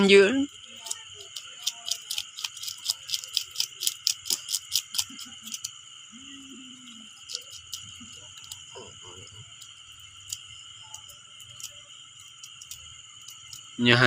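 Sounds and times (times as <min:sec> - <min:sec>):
night insects chorus: 0:00.0 - 0:14.0.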